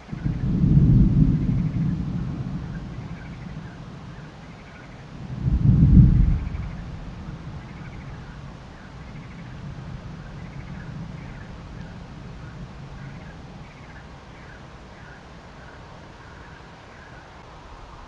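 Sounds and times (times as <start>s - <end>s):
steady outdoor hiss: 0.0s - 18.0s
thunder rumbling: 0.0s - 18.0s.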